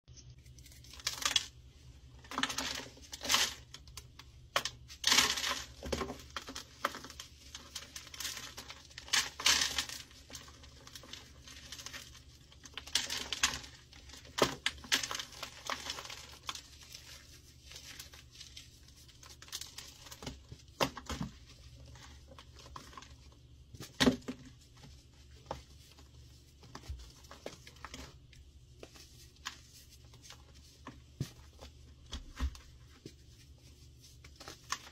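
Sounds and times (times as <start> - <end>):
soft crumbling and rustling: 0.2 - 34.9.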